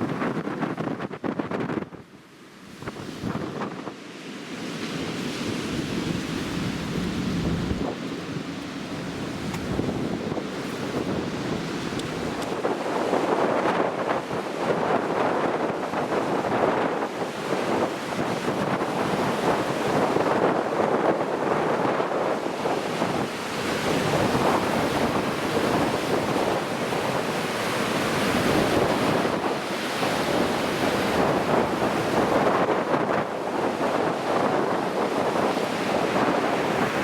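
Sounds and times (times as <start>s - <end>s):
wind buffeting the microphone: 0.0s - 37.0s
waves breaking: 2.2s - 37.0s.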